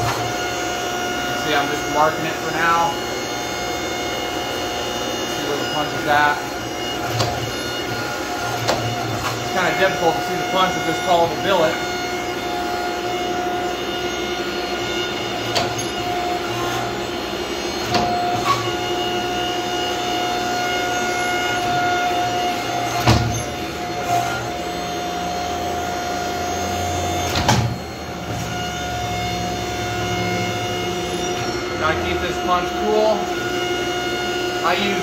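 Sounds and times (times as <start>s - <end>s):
hydraulic press pump whining hum: 0.0s - 35.0s.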